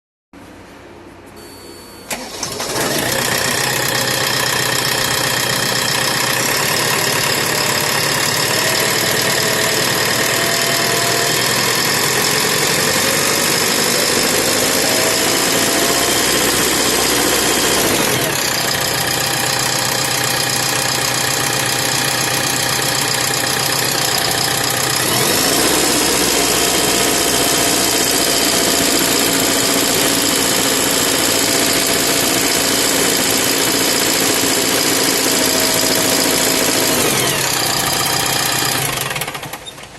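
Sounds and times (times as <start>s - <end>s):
diesel engine running with abnormal noise: 2.1s - 39.9s
diesel engine starting: 2.1s - 39.9s.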